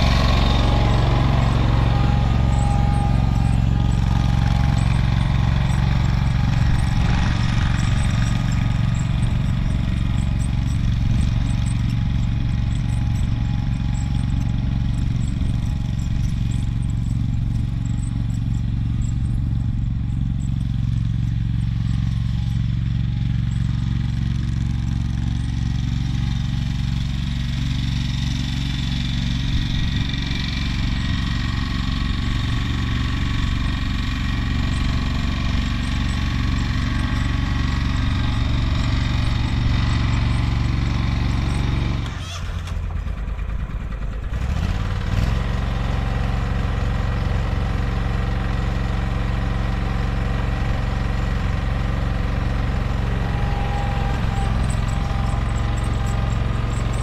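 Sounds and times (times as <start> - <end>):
garden tractor engine running: 0.0 - 57.0.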